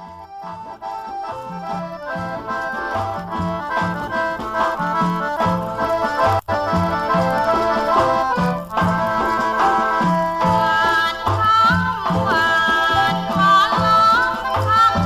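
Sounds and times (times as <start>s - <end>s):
sliding lead melody: 0.0s - 15.0s.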